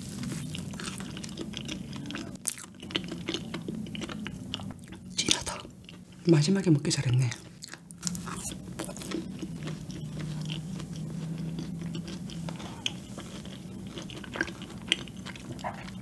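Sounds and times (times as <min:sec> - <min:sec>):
low steady hum: 0:00.0 - 0:16.0
wet chewing with crunches: 0:00.0 - 0:16.0.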